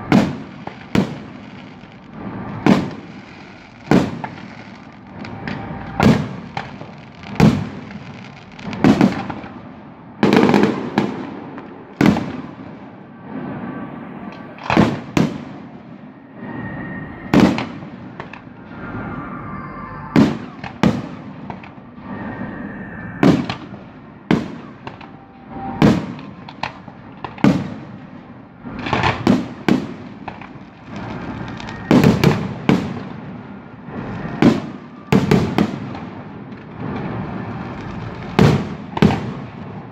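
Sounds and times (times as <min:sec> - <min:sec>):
fireworks bursting with bangs: 0:00.0 - 0:39.9.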